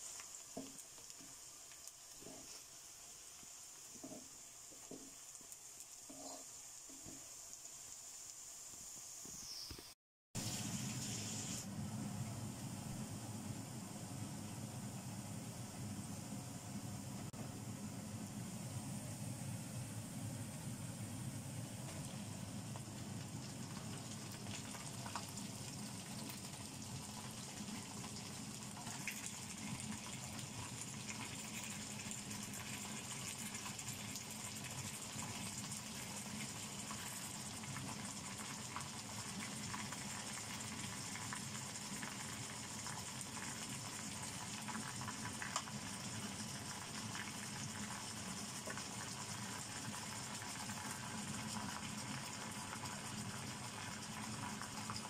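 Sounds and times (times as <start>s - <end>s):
chicken sizzling in oil: 0.0s - 16.0s, 20.1s - 55.0s.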